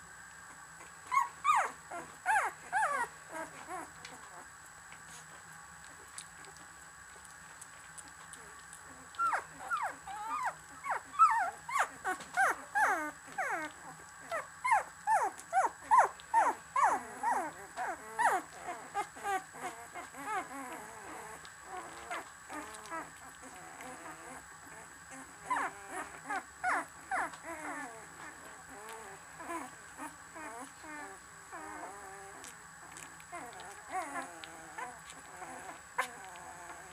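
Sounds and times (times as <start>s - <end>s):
puppies whimpering: 1.0s - 4.5s, 8.3s - 36.9s.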